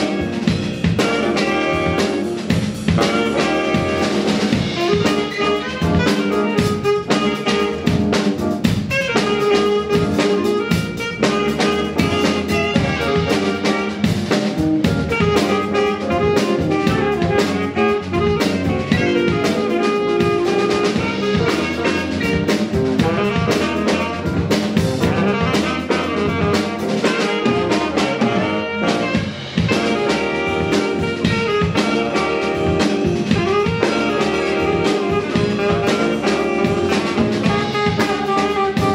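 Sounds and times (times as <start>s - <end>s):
drum kit: 0.0s - 38.9s
electric bass guitar: 0.0s - 38.9s
saxophones playing jazz: 0.0s - 38.9s.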